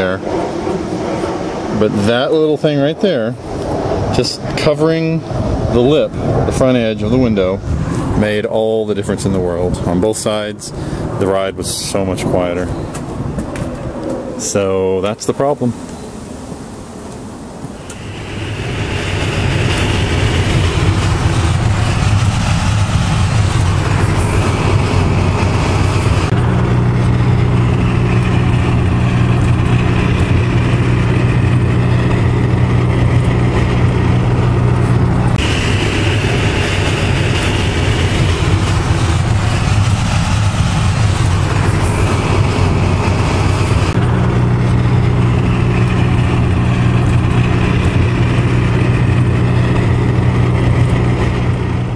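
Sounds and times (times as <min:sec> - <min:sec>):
engine hum: 0:00.0 - 0:51.9
road and wind noise: 0:00.0 - 0:51.9.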